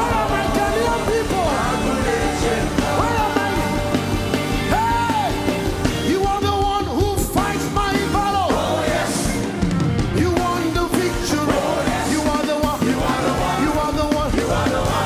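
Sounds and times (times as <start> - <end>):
band playing upbeat music: 0.0 - 15.0
driving drum beat: 0.0 - 15.0
voices singing: 0.0 - 15.0.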